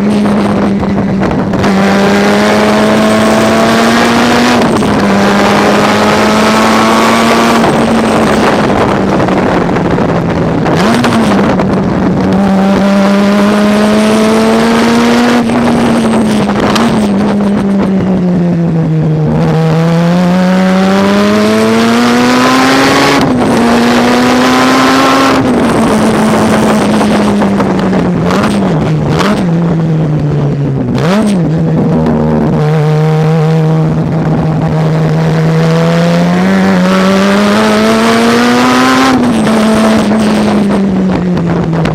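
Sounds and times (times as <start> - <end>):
race car rotary engine: 0.0 - 41.9.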